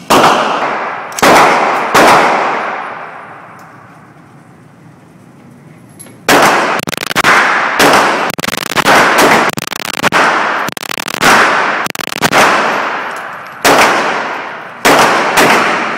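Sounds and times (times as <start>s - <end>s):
echoing gunshots: 0.0s - 3.5s, 6.2s - 15.9s.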